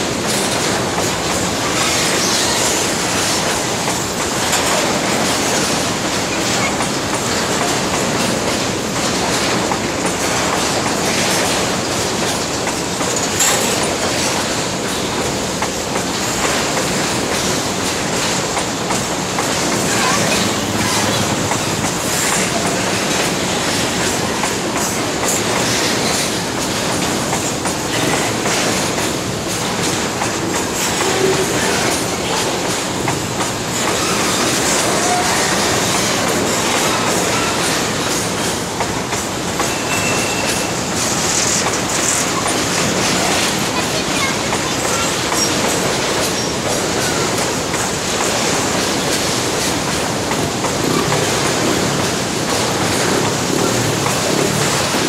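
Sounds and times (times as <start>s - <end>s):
steel wheels rumbling on rail: 0.0s - 55.0s
wheels clicking over rail joints: 0.1s - 55.0s.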